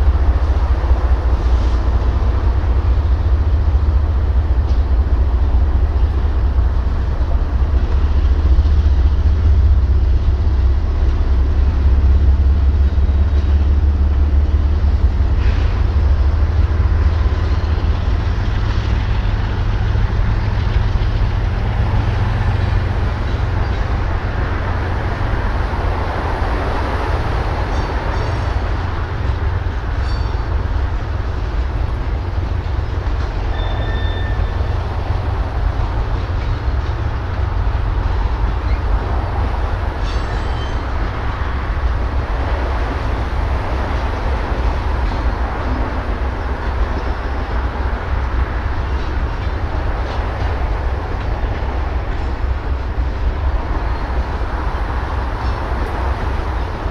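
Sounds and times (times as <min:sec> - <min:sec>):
freight train rumbling: 0:00.0 - 0:56.9.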